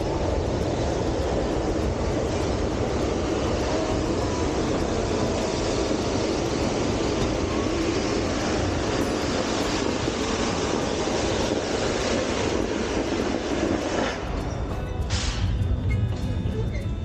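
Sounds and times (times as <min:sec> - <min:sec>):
train car rolling on track: 0:00.0 - 0:17.0.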